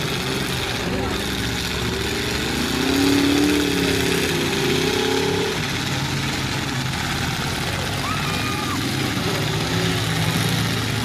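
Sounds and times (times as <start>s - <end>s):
rumble of engines: 0.0s - 11.0s
truck engine revving: 0.0s - 11.0s.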